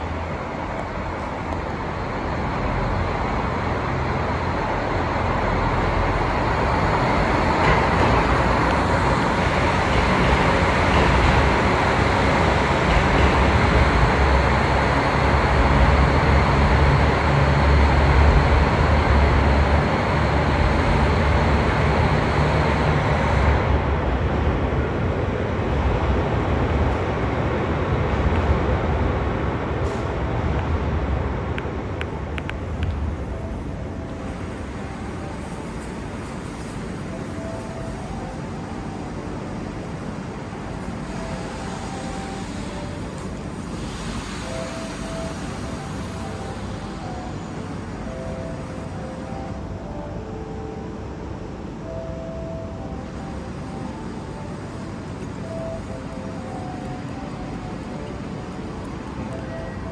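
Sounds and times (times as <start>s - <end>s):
electric train rumbling past: 0.0s - 59.9s
road traffic noise: 0.0s - 59.9s.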